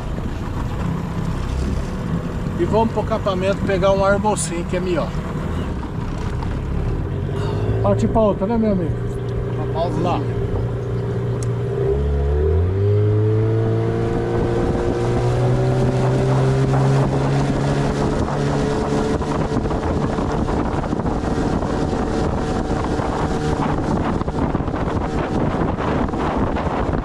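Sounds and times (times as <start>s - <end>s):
outboard motor running: 0.0s - 27.0s
wind buffeting microphone: 0.0s - 27.0s.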